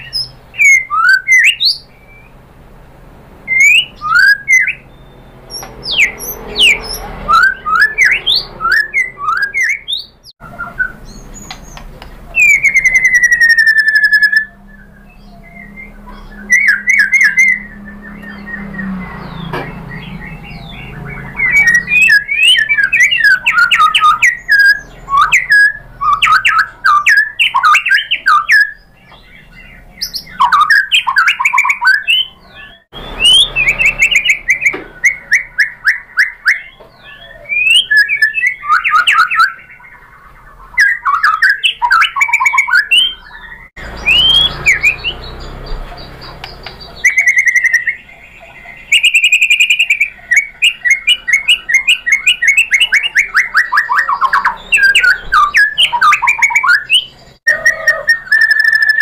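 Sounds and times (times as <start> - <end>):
songbird whistling and chattering: 0.0 - 2.4, 3.5 - 59.0.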